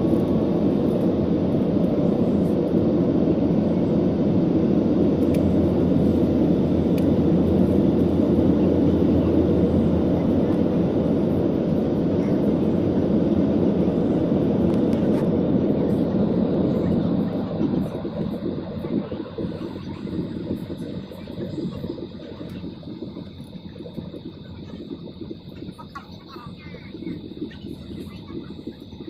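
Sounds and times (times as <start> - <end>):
rushing air: 0.0 - 25.5
airplane engines rumbling: 0.0 - 29.0.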